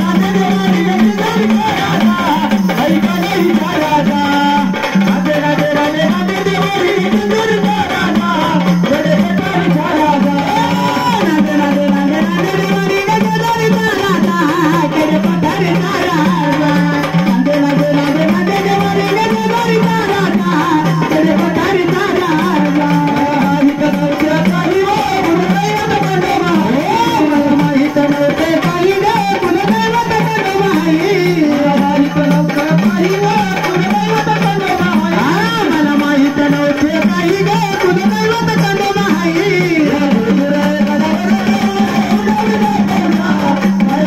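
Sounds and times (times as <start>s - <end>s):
steady drum accompaniment: 0.0s - 44.0s.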